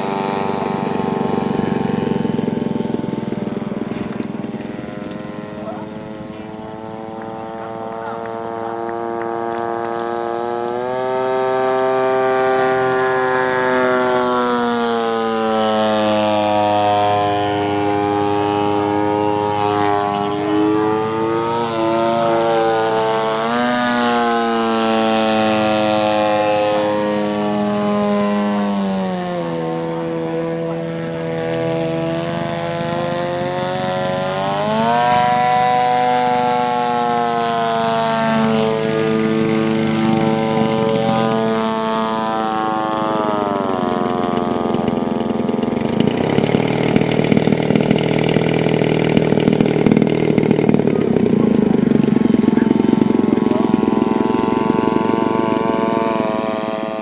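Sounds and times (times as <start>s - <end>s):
model airplane engine and propeller: 0.0s - 57.0s.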